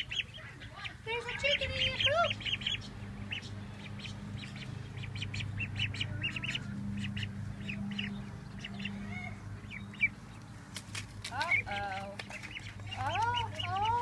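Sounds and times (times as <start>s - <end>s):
ducklings peeping: 0.0s - 14.0s
steady low hum: 0.0s - 14.0s.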